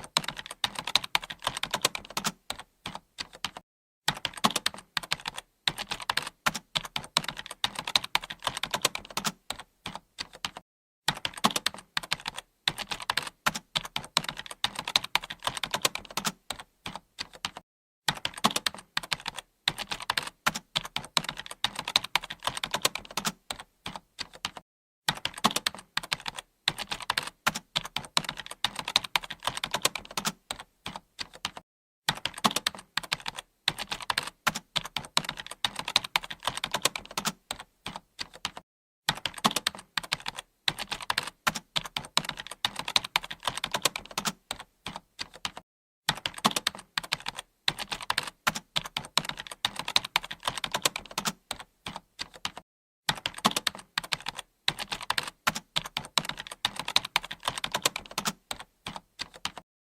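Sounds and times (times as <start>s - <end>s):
computer keyboard typing: 0.0s - 59.6s.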